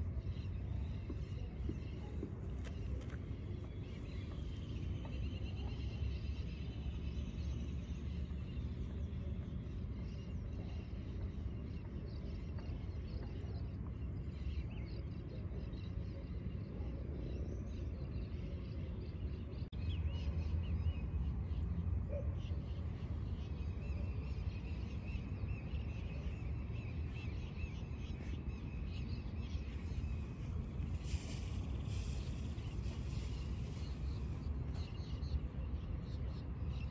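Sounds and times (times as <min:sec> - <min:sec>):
steady low rumble: 0:00.0 - 0:21.9, 0:22.6 - 0:36.9.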